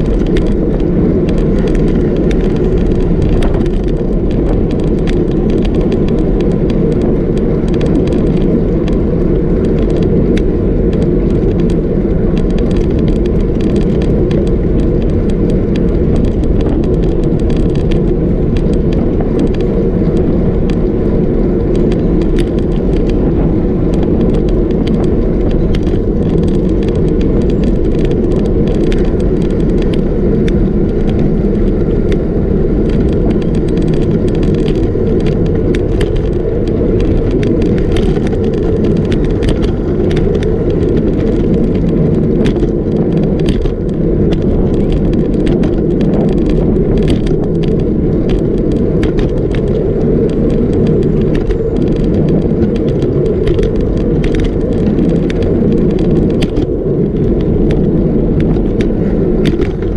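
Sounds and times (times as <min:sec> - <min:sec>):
bike clicks and rattles: 0:00.0 - 0:59.9
tyres rolling on asphalt: 0:00.0 - 0:59.9
wind rushing on microphone: 0:00.0 - 0:59.9.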